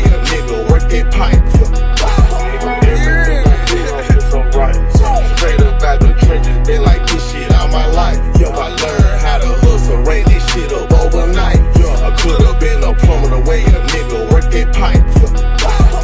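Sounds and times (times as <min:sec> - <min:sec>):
hip hop beat: 0:00.0 - 0:16.0.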